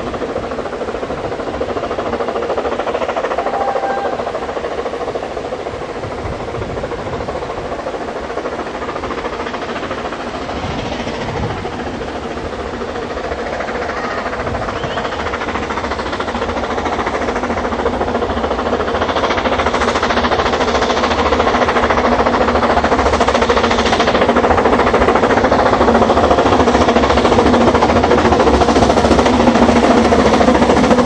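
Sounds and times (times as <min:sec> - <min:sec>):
steam locomotive chuffing: 0:00.0 - 0:31.0.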